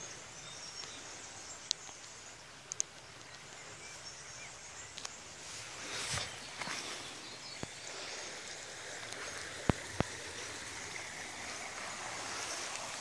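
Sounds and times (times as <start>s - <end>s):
water running over stones: 0.0s - 13.0s.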